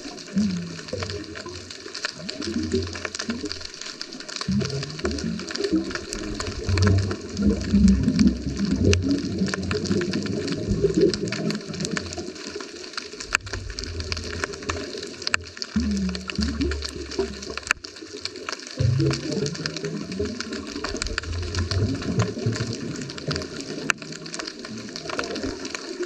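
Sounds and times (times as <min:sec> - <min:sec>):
underwater regulator bubbles: 0:00.0 - 0:26.0.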